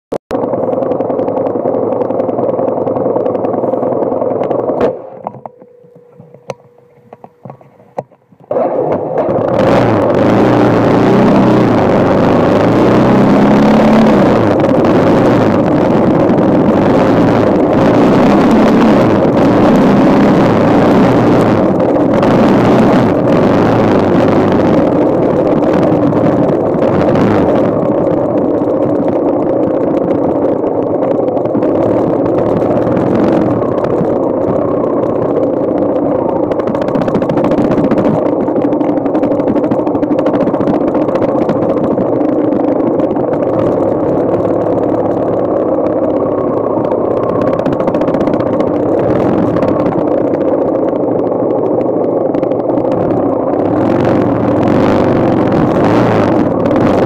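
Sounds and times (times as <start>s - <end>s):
motorcycle engine revving: 0.4s - 57.0s.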